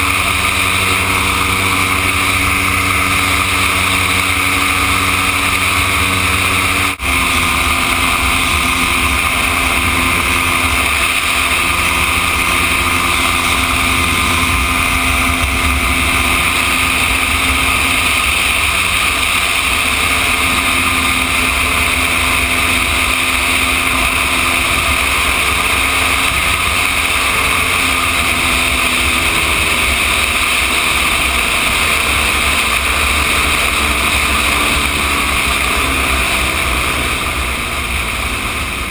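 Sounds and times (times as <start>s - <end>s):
gyroplane engine and propeller: 0.0s - 38.9s.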